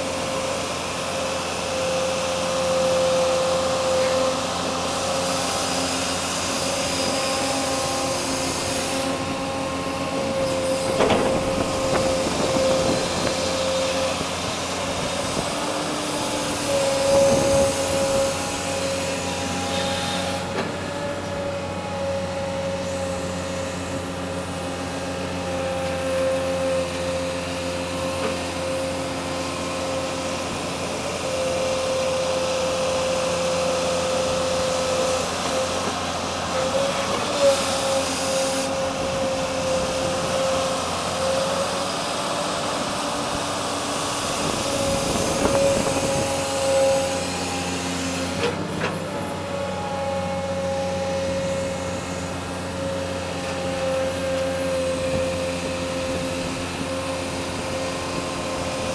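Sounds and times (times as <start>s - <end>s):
heavy machine engine whining: 0.0s - 58.9s.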